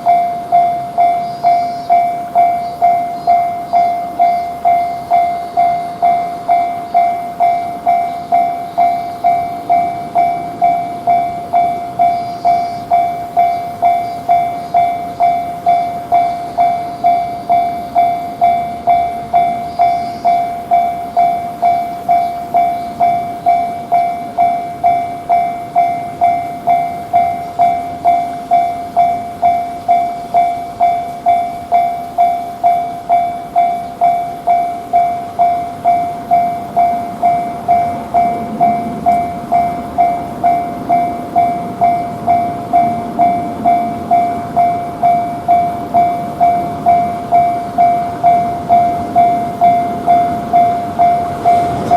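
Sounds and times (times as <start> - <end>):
level crossing warning bell: 0.0 - 51.9.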